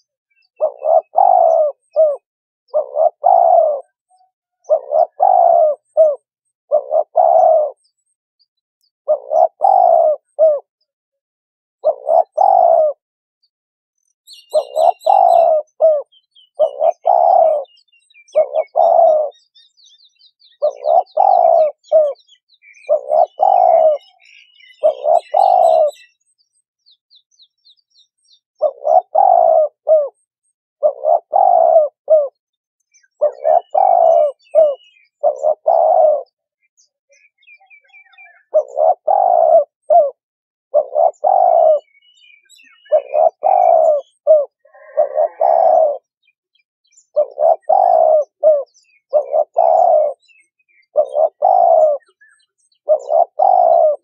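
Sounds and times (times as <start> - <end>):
dove cooing: 0.0 - 8.2, 9.1 - 10.8, 11.8 - 13.0, 14.3 - 19.8, 20.4 - 26.2, 28.6 - 32.4, 33.0 - 46.3, 46.9 - 54.0
small birds chirping: 0.0 - 11.0, 11.8 - 54.0.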